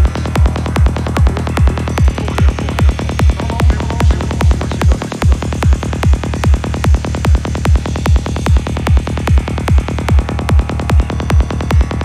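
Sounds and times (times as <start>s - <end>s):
kick drum: 0.0s - 12.0s
rolling bass notes: 0.0s - 12.0s.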